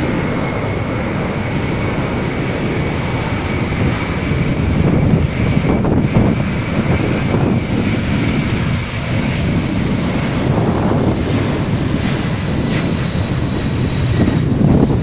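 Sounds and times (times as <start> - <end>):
jet engines at high power: 0.0 - 15.0
wind buffeting microphone: 0.0 - 15.0.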